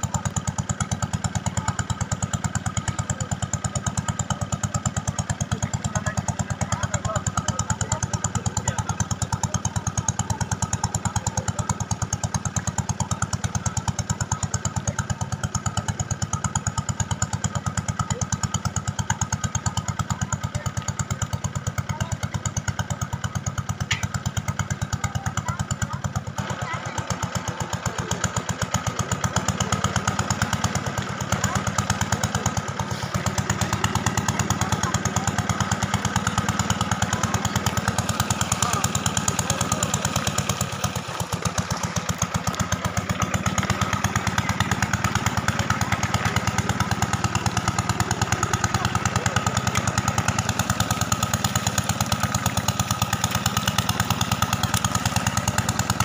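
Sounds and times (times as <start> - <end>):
water pump engine running: 0.0 - 56.0.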